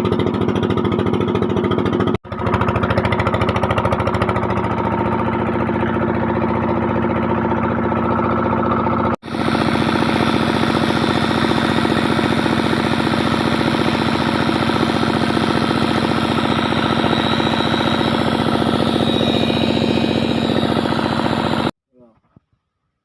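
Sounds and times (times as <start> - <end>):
small engine running: 0.0 - 21.8.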